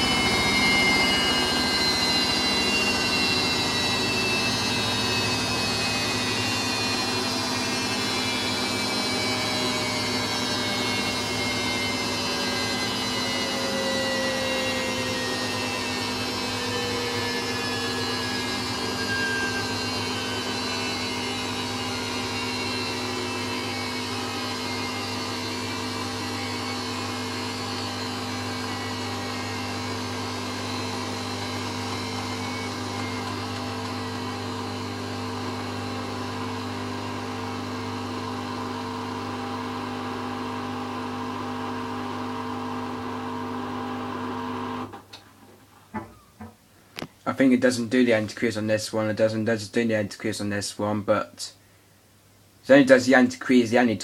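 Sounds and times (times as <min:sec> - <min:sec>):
washing machine spinning: 0:00.0 - 0:45.0.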